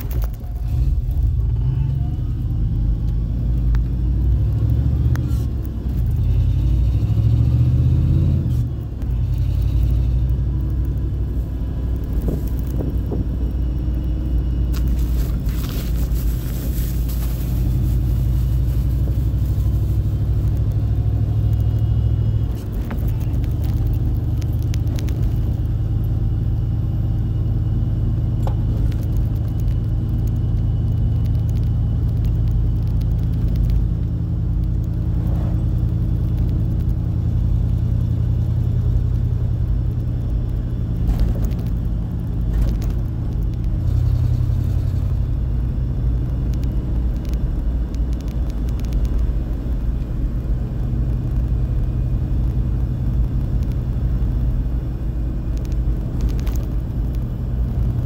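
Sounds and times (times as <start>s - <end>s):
faint high power steering whine: 0.0s - 58.0s
pickup engine running in cab: 0.0s - 58.0s.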